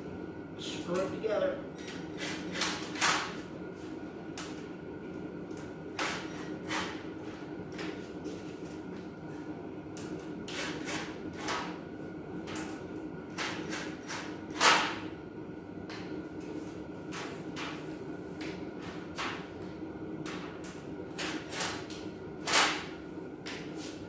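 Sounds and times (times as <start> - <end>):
heater humming: 0.0 - 24.0.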